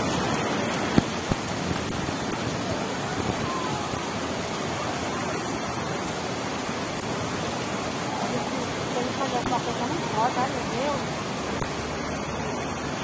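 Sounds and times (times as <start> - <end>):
creek rushing: 0.0 - 13.0.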